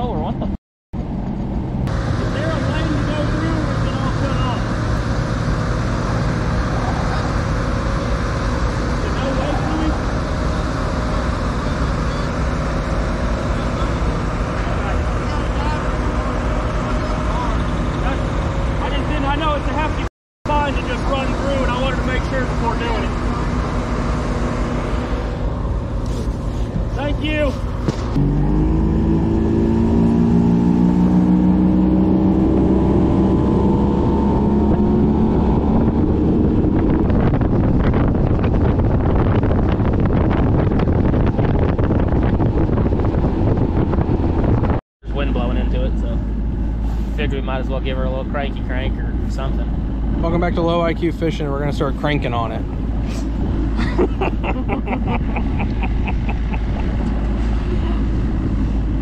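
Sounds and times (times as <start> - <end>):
rushing wind: 1.0 - 59.0
outboard motor running: 1.1 - 59.0.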